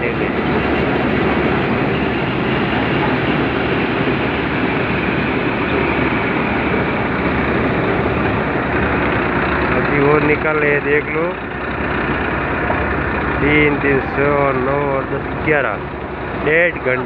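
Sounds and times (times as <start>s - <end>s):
thresher mechanical rush: 0.0s - 17.0s
tractor engine running: 0.0s - 17.0s.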